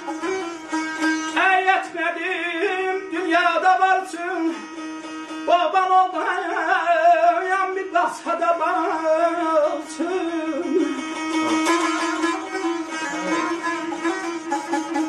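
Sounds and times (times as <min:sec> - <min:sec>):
plucked lute melody: 0:00.0 - 0:07.3, 0:10.0 - 0:15.0.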